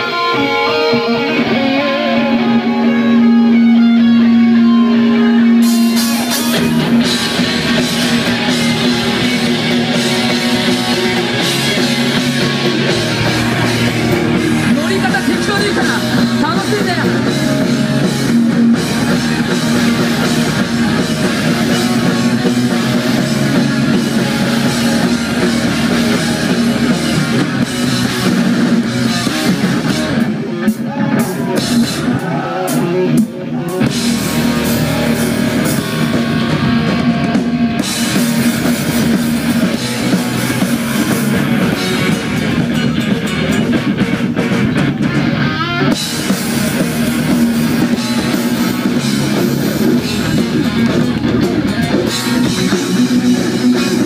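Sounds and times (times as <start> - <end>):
driving drum kit: 0.0 - 54.0
electric guitars: 0.0 - 54.0
live rock band: 0.0 - 54.0.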